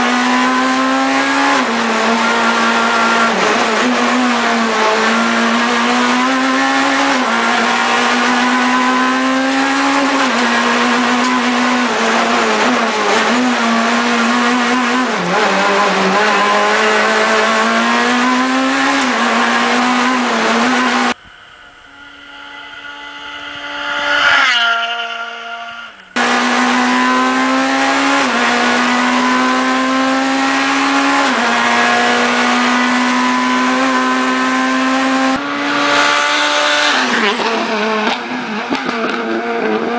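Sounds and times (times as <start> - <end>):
rally car engine high revs: 0.0 - 21.2, 22.0 - 39.9.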